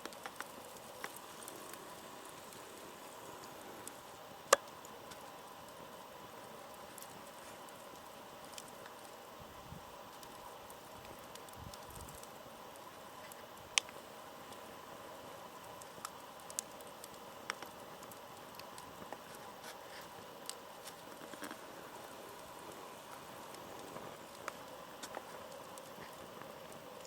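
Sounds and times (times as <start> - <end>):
bonfire crackling: 0.0 - 27.0
low fire hiss: 0.0 - 27.0.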